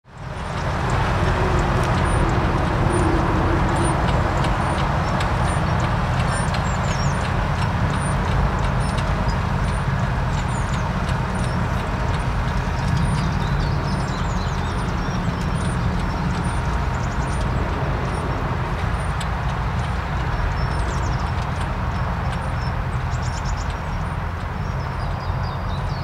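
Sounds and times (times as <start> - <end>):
tractor engine running: 0.1 - 26.0.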